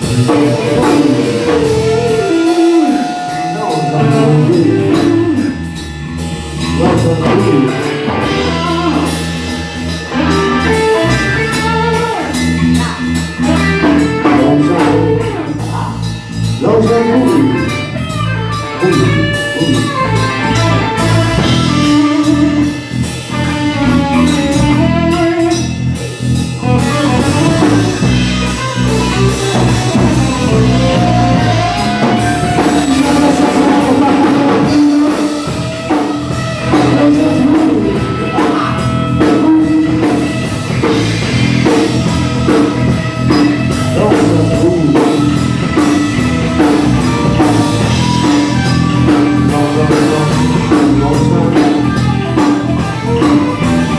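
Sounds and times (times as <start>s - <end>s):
rock and roll band playing: 0.0s - 53.9s.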